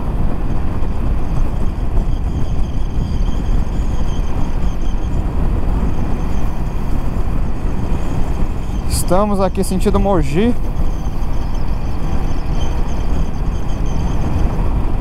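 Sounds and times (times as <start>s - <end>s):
motorcycle road noise: 0.0s - 15.0s
wind buffeting helmet microphone: 0.0s - 15.0s.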